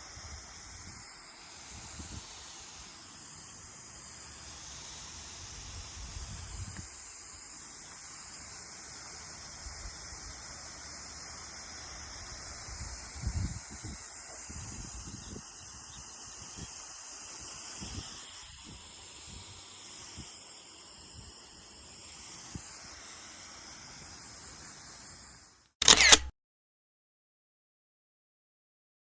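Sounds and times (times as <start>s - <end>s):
steady hiss: 0.0s - 25.8s.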